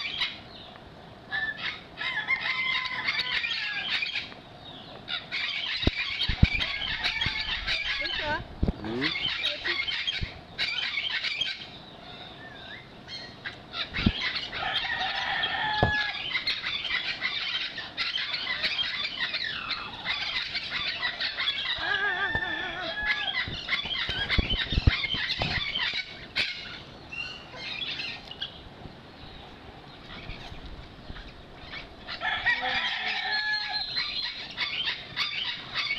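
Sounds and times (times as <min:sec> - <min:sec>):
birds calling and squawking: 0:00.0 - 0:35.9.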